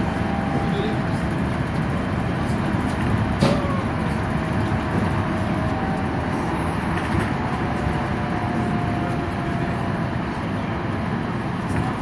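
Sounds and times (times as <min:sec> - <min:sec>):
tram rumbling and rolling: 0:00.0 - 0:12.0.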